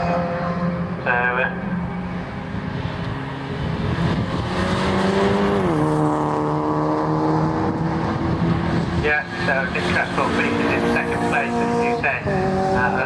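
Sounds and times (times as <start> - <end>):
racing car engine passing: 0.0 - 13.0.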